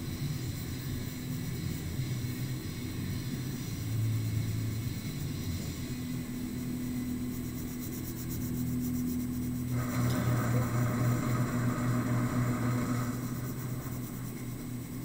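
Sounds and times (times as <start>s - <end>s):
even hiss: 0.0s - 15.0s
low hum: 0.0s - 15.0s.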